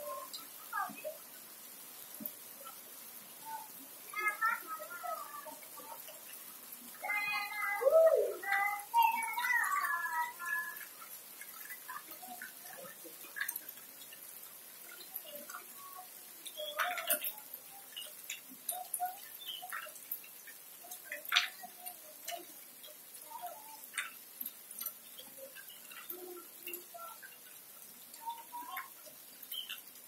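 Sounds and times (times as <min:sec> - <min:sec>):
rain hiss on wet paving: 0:00.0 - 0:30.0
water drips and taps: 0:00.0 - 0:30.0.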